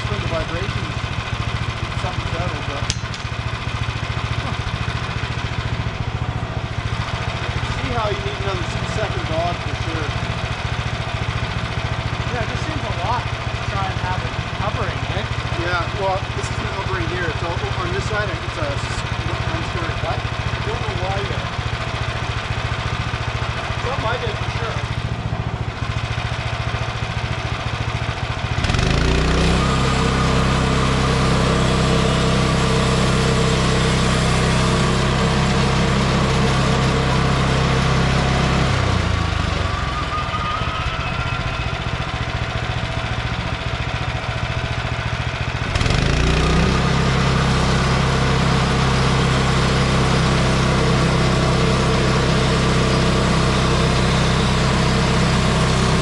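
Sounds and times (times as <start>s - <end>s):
sawmill gas engine revving: 0.0s - 56.0s.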